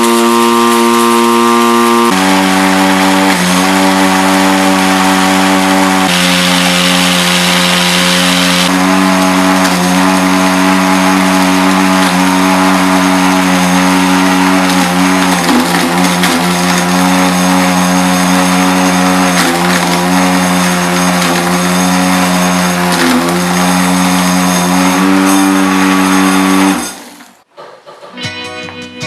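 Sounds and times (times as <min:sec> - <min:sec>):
coffee grinder motor humming: 0:00.0 - 0:27.4.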